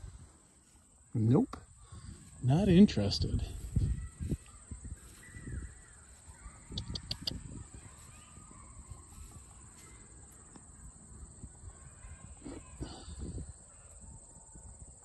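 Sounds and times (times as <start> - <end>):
bird calls: 0.0 - 14.5.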